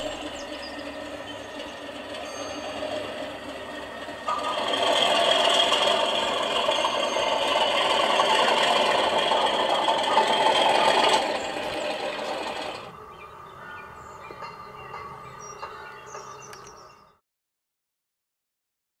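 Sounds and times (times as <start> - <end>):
model train rattling: 0.0 - 17.1.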